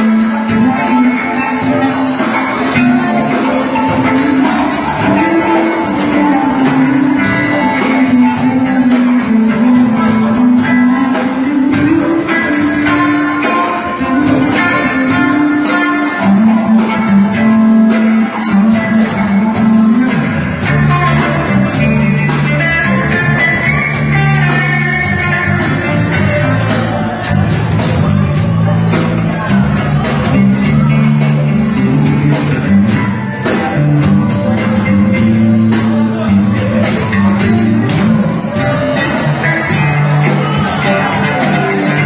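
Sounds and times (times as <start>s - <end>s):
bass line: 0.0s - 42.0s
guitar: 0.0s - 42.0s
steady drum beat: 0.0s - 42.0s.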